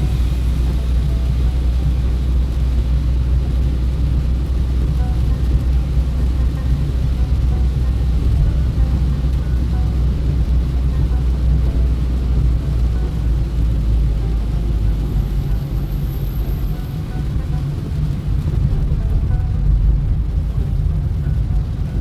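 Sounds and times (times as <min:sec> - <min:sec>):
car driving on wet road: 0:00.0 - 0:22.0.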